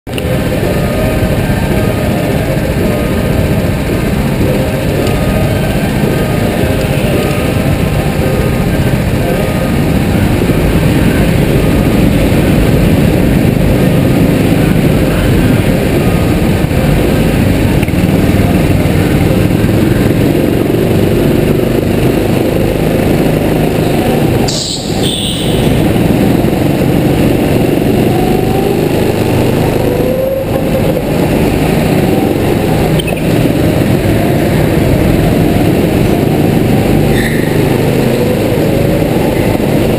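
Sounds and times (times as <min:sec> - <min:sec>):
go-kart engines running: 0:00.1 - 0:39.9
kart engine revving: 0:00.1 - 0:39.9.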